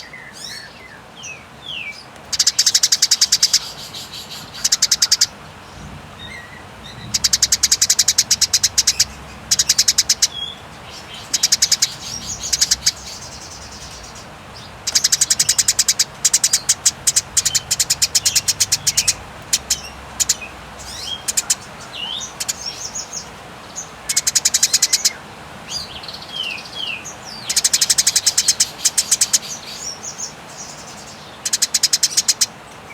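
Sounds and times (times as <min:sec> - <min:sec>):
sparrows chattering chirps: 0:00.0 - 0:32.9.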